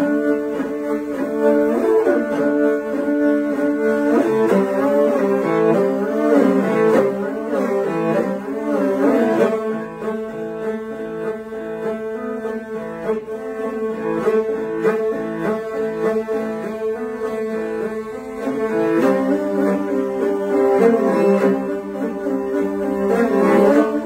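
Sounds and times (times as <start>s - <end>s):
bowed fiddles playing melody: 0.0s - 24.0s.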